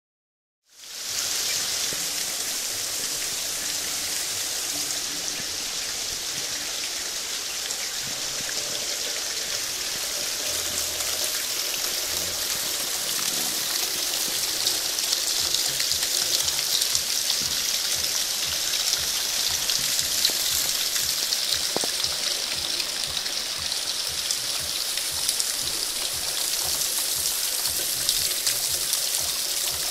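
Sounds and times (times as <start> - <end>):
heavy rain on leaves: 0.7 - 29.9.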